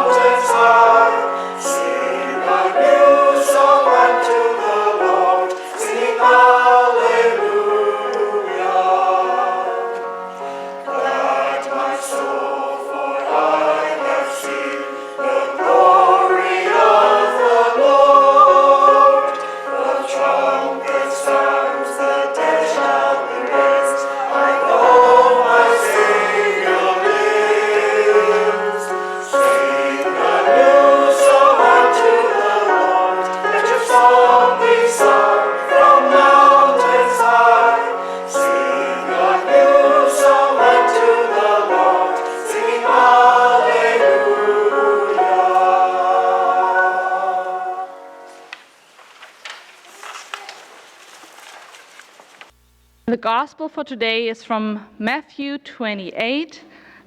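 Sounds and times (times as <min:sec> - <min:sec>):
church choir singing: 0:00.0 - 0:48.9.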